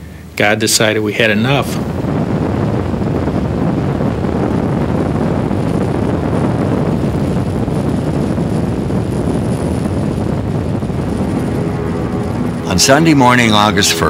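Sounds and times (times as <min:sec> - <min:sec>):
faint high whine: 0:00.0 - 0:14.0
wind on microphone: 0:01.2 - 0:14.0.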